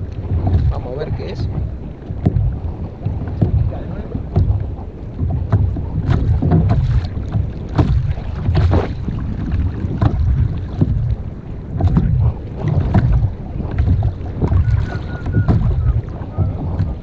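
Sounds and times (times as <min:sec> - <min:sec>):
water splashing against kayak hull: 0:00.0 - 0:17.0
wind buffeting microphone: 0:00.0 - 0:17.0.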